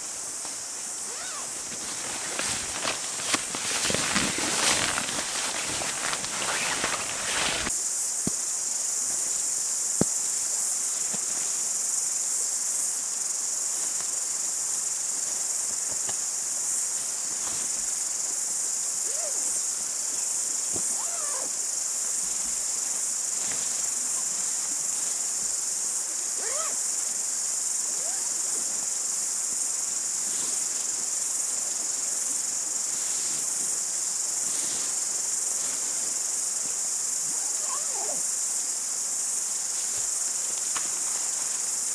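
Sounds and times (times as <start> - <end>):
insects chirring: 0.0 - 41.9.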